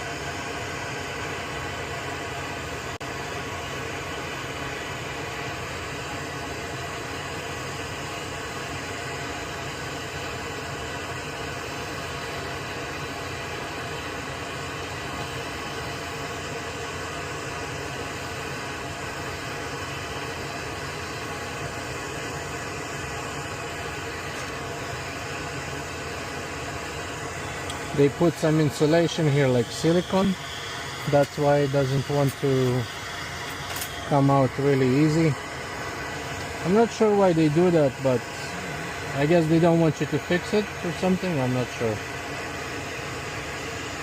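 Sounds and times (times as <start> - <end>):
machine hiss with faint hum: 0.0 - 44.0.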